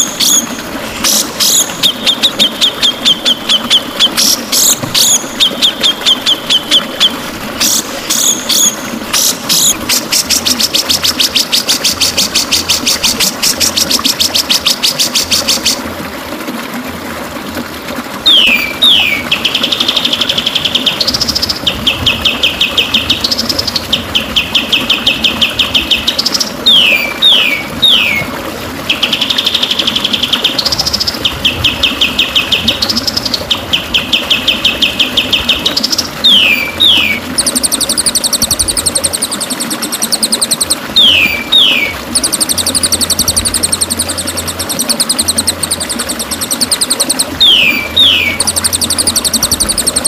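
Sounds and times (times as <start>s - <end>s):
songbird trilling: 1.1s - 15.8s, 18.3s - 28.3s, 29.0s - 50.0s.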